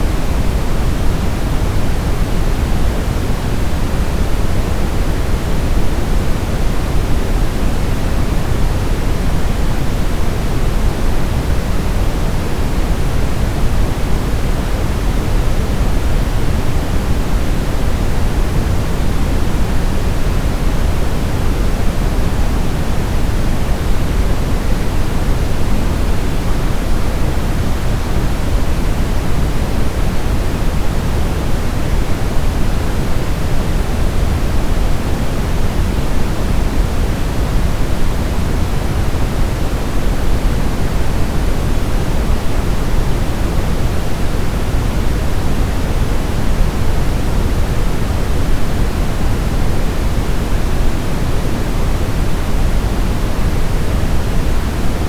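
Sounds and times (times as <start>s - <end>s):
steady synthetic pink noise: 0.0s - 55.0s.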